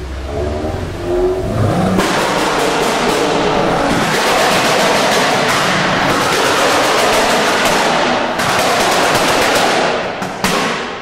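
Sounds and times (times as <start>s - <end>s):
car engine revving: 0.0s - 10.2s
exhaust crackle: 0.0s - 11.0s.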